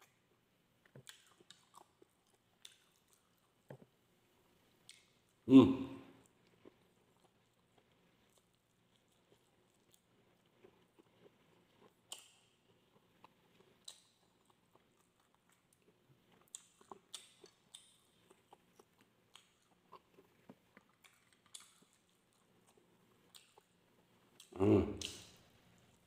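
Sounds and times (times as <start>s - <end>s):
person chewing: 0.0s - 4.0s, 6.1s - 26.0s.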